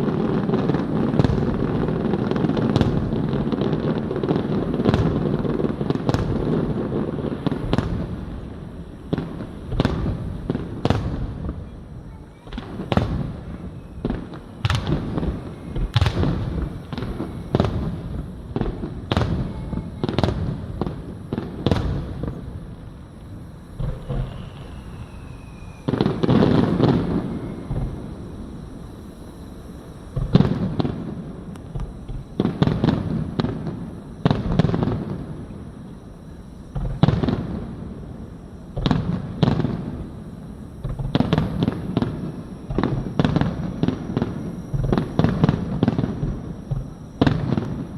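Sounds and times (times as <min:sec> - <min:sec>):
fireworks bursts and booms: 0:00.0 - 0:47.9.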